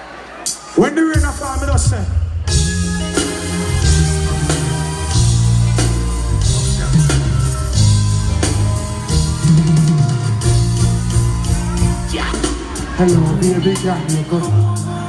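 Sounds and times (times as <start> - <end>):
drum kit: 0.4 - 15.0
bass guitar: 2.5 - 15.0
guitar: 2.5 - 15.0.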